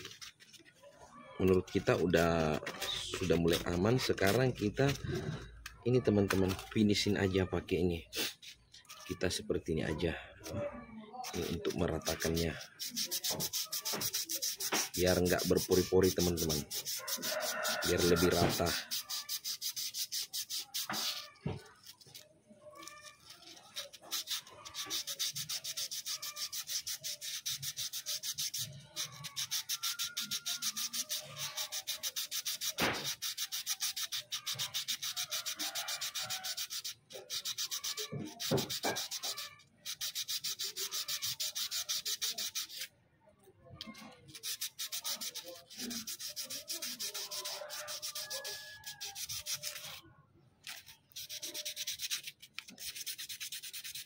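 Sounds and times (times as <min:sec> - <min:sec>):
sandpaper rasping on spinning metal: 0:00.0 - 0:00.8, 0:01.4 - 0:05.4, 0:06.0 - 0:10.0, 0:11.2 - 0:42.9, 0:44.3 - 0:50.0, 0:50.7 - 0:54.0.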